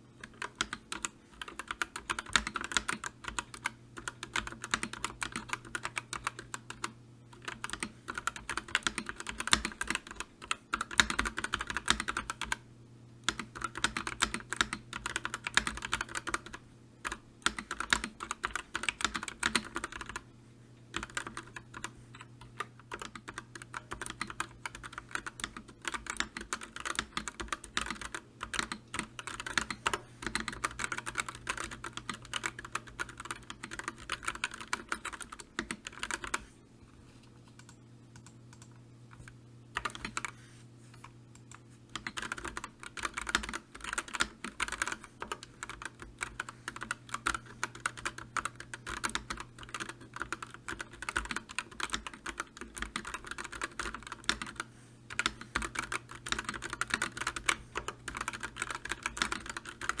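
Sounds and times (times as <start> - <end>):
keyboard typing: 0.2 - 12.6, 13.2 - 20.2, 20.9 - 36.5, 37.5 - 40.4, 41.0 - 60.0.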